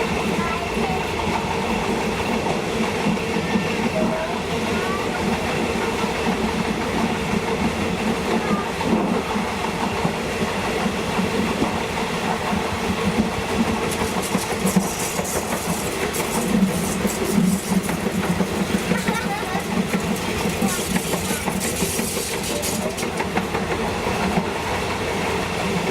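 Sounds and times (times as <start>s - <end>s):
train rumble: 0.0s - 25.9s
train wheels clacking over rails: 0.0s - 25.9s.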